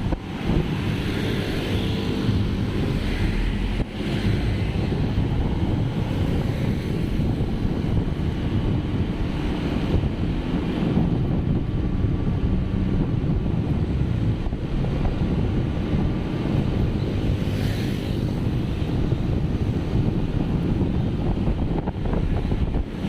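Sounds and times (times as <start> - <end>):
vehicle road noise: 0.0 - 23.0
wind buffeting microphone: 0.0 - 23.0.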